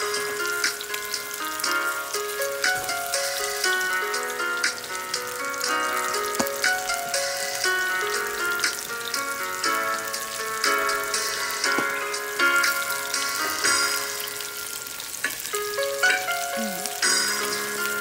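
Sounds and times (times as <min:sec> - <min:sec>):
instrumental background music: 0:00.0 - 0:18.0
onion and tomato sizzling in oil: 0:00.0 - 0:18.0.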